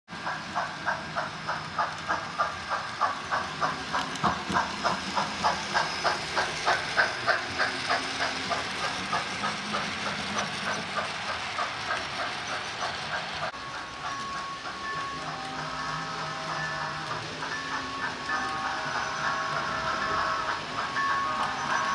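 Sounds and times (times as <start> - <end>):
model steam locomotive chuffing: 0.1 - 21.9
steam hiss: 0.1 - 21.9.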